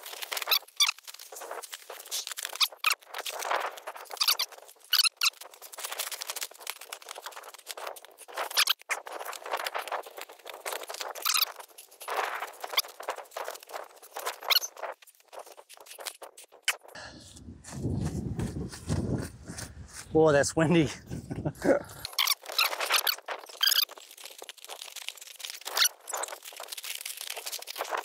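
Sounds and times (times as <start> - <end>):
tarp flapping in wind: 0.0 - 16.2, 17.4 - 20.2, 21.0 - 28.0
tarp squeaky crackles: 0.0 - 17.0, 22.0 - 28.0.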